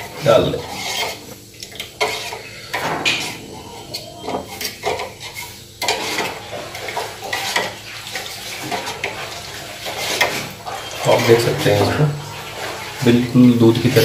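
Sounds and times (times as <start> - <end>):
metal spoon stirring in steel pan: 0.0 - 13.0.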